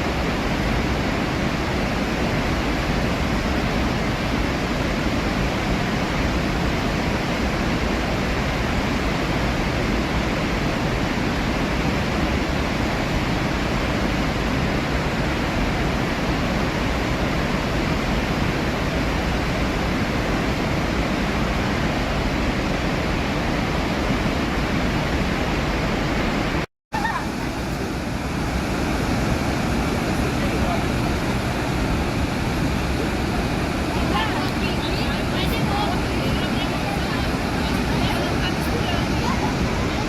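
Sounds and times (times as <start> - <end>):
waterfall roaring: 0.0 - 40.0.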